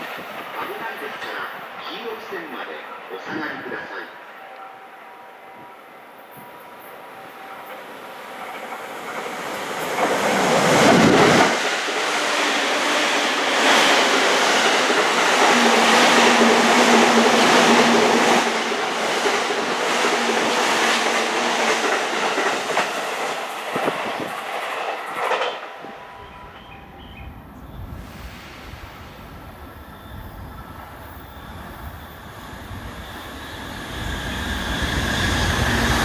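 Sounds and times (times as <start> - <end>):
electric train passing: 0.0 - 36.0.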